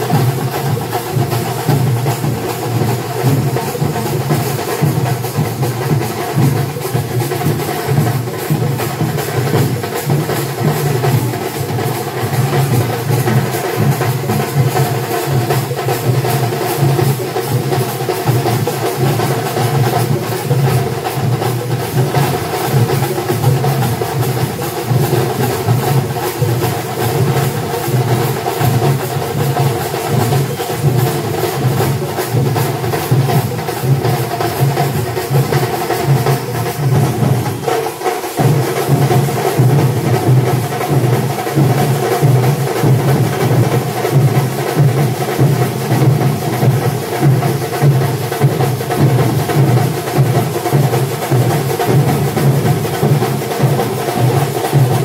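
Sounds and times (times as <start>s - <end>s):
drum ensemble fast rhythm: 0.0s - 55.0s.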